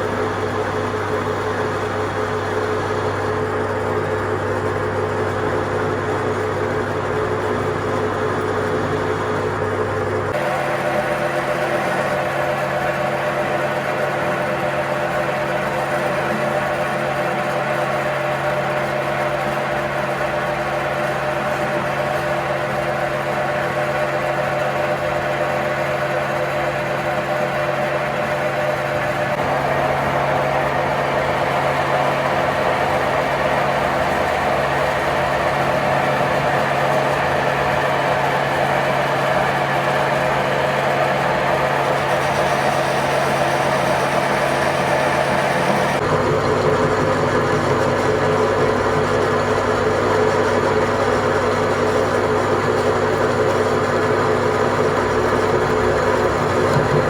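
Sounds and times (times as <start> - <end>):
machine humming: 0.0 - 18.6, 28.5 - 57.0.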